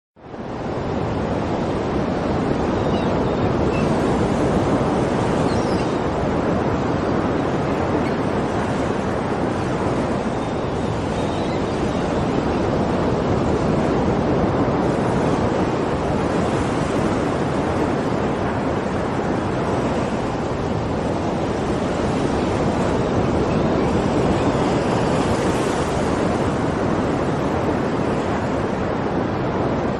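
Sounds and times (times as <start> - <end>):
sea surf rushing: 0.2 - 29.9.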